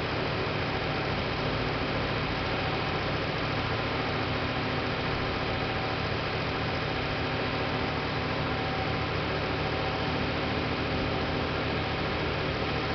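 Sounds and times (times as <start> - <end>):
diesel engine running steadily: 0.0 - 12.9.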